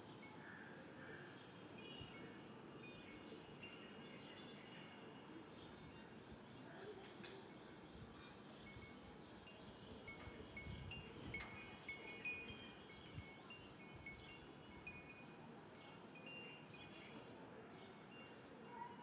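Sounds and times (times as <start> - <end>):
faint wind chimes tinkling: 0.1 - 19.0.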